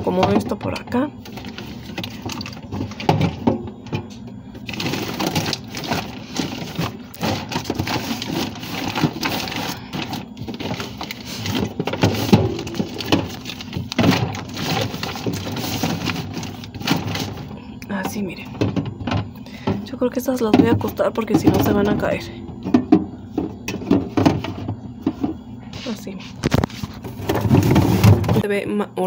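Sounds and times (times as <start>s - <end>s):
plastic milk bags rustling: 0.0s - 18.8s, 23.3s - 28.4s
bumps in refrigerator drawer: 0.0s - 19.8s, 20.4s - 25.5s, 26.5s - 28.4s.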